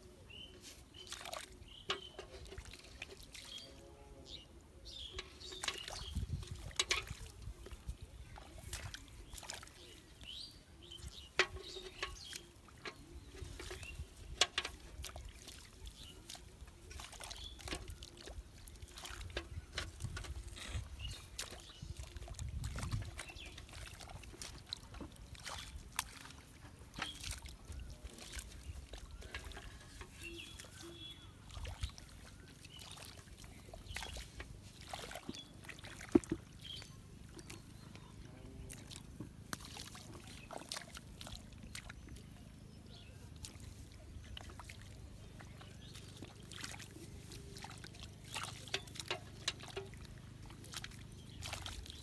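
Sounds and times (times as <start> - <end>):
small water splashes: 0.0 - 52.0
wet squelches in mud: 0.2 - 3.7, 4.9 - 52.0.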